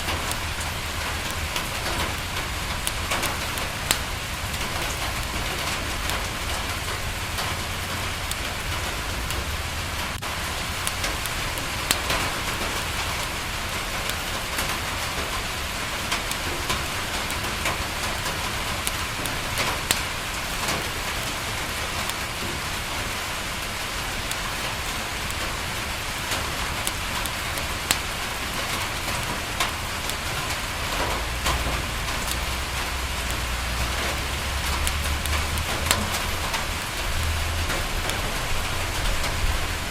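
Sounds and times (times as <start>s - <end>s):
crackling wood fire pops: 0.0s - 39.9s
rain on window glass: 0.0s - 39.9s.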